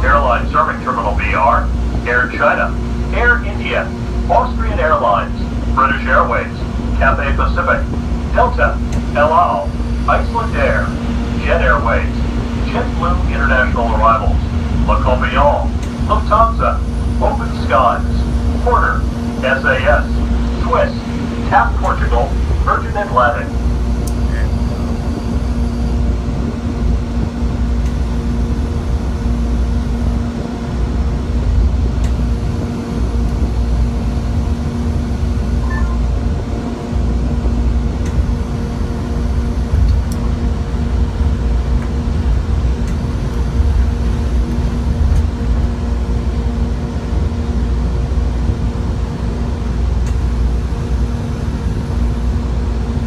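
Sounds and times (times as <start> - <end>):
motor hum: 0.0 - 53.0
train car rumble: 0.0 - 53.0.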